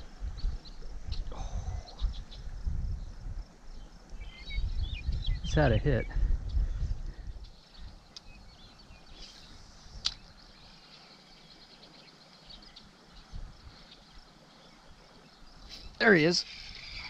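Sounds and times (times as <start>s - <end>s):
faint bird chirps: 0.2s - 17.0s.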